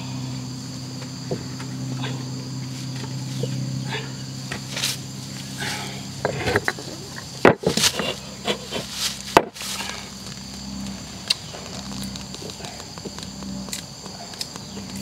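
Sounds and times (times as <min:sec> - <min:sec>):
insect buzz: 0:00.0 - 0:15.0.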